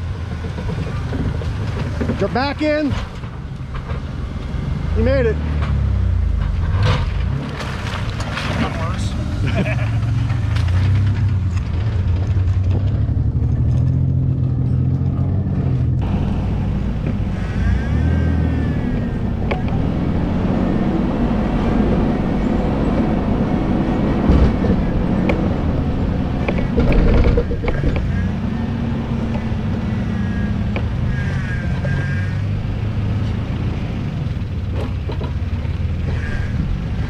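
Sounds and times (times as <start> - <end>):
suv engine revving off-road: 0.0 - 37.0.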